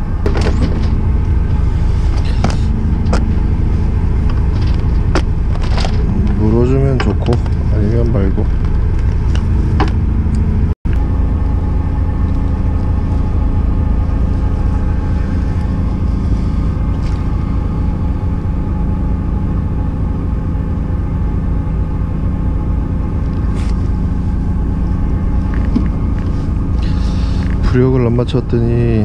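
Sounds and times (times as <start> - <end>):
boat engine idling: 0.0 - 29.0.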